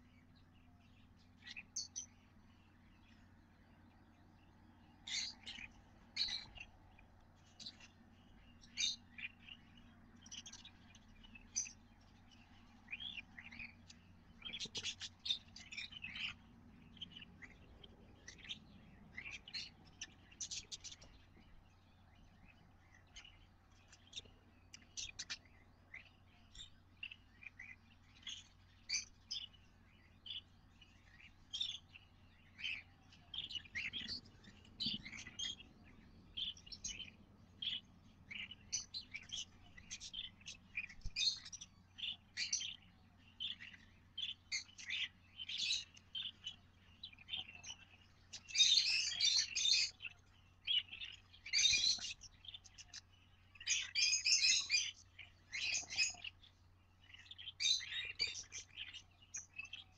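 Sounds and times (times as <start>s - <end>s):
baby birds chirping: 0.0s - 59.9s
faint low hum: 0.0s - 59.9s.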